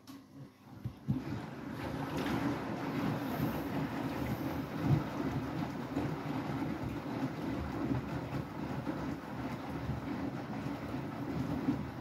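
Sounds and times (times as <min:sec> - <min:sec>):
washing machine drum turning: 0:00.0 - 0:12.0.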